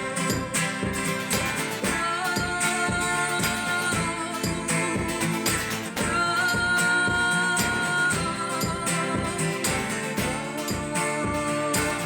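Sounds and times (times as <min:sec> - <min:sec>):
acoustic instrument strumming: 0:00.0 - 0:12.0.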